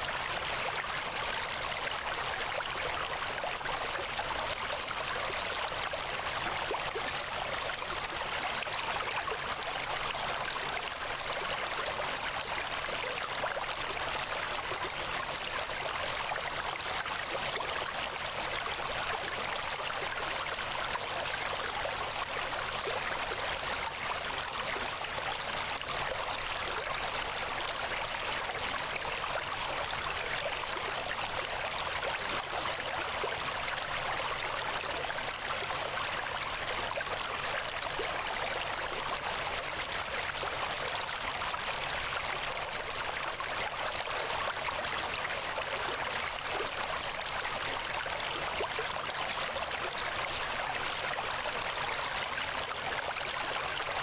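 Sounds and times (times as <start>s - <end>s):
steady rushing water: 0.0s - 54.0s.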